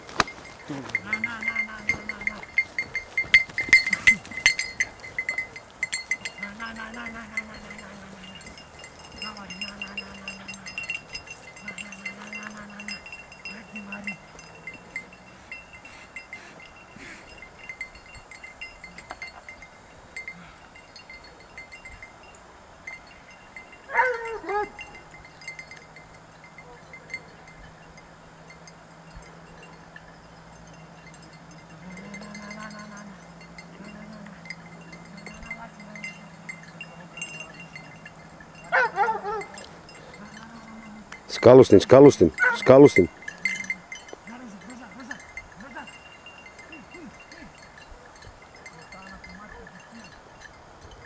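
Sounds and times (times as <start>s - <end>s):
small metal bell jangling: 0.0s - 51.0s.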